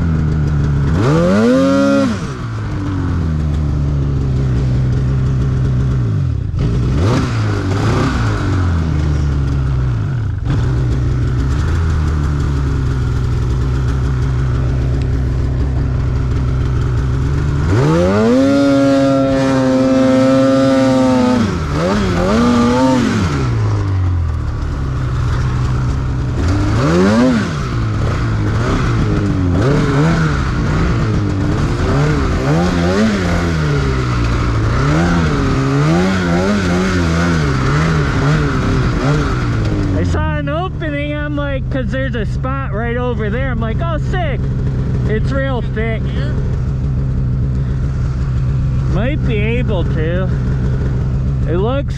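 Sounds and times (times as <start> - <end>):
snowmobile engine revving: 0.0 - 51.9.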